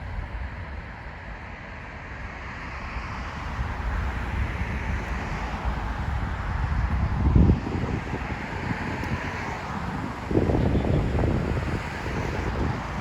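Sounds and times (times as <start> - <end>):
distant traffic: 0.0 - 13.0
wind buffeting microphone: 0.0 - 13.0.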